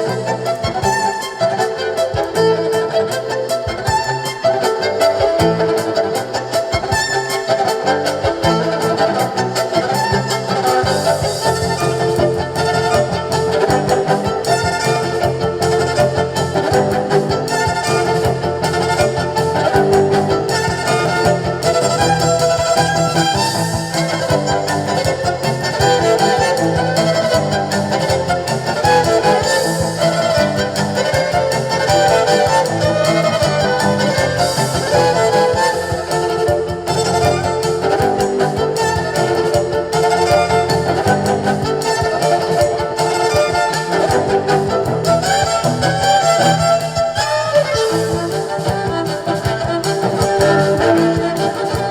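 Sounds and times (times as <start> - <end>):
violin melody: 0.0 - 51.9
bass line: 9.4 - 51.9.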